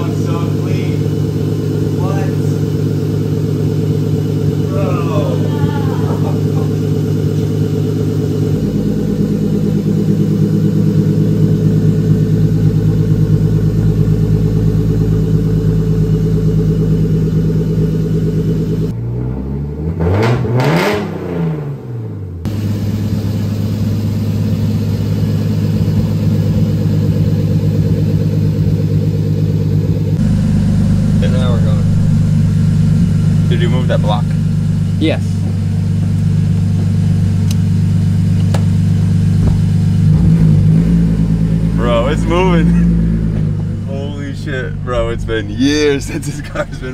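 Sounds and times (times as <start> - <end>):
car engine idling: 0.0 - 19.0, 22.0 - 46.9.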